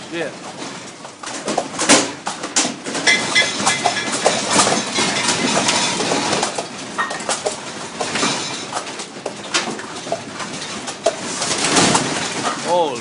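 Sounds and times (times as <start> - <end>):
objects rattling in earthquake: 0.0 - 13.0.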